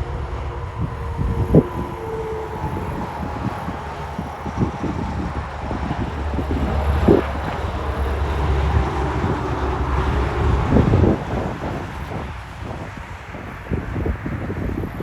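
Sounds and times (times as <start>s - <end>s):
truck passing by: 0.0s - 15.0s
wind buffeting microphone: 0.0s - 15.0s.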